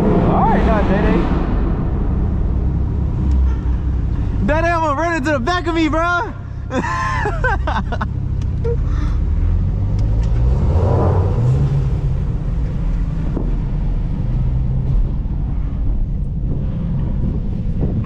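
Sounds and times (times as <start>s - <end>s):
car engine accelerating: 0.0s - 6.0s, 6.7s - 18.0s
road noise inside car: 0.0s - 18.0s.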